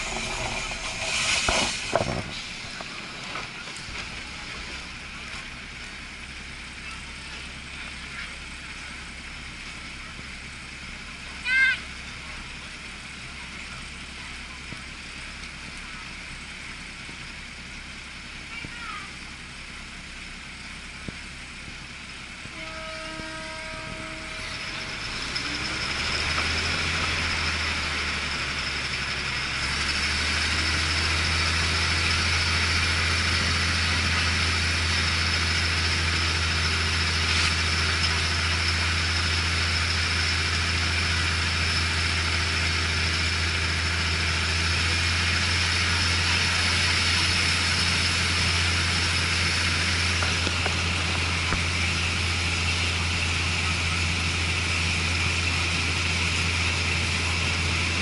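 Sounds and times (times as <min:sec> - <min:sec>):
wheel and wind noise: 0:00.0 - 0:22.6, 0:23.8 - 0:58.0
diesel train engine drone: 0:00.0 - 0:58.0.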